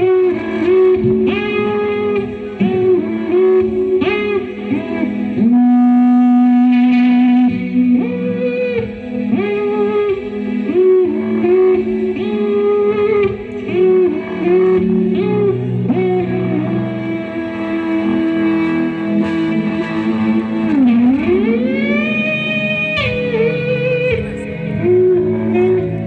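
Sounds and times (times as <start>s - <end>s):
electric guitar through pa system: 0.0s - 26.0s.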